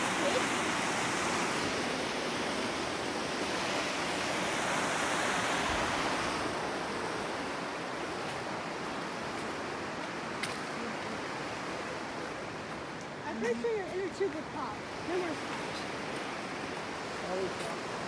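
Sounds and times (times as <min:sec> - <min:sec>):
water rushing in a creek: 0:00.0 - 0:18.0.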